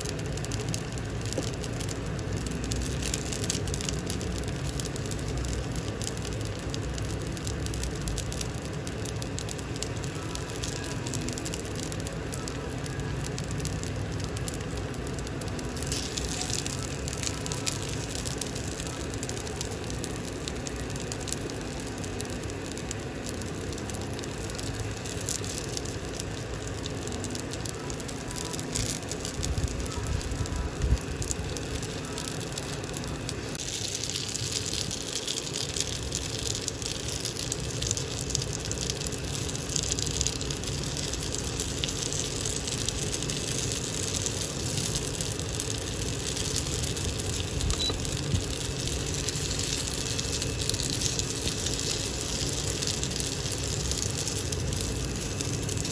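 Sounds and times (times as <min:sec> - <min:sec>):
dumplings sizzling in oil: 0:00.0 - 0:55.9.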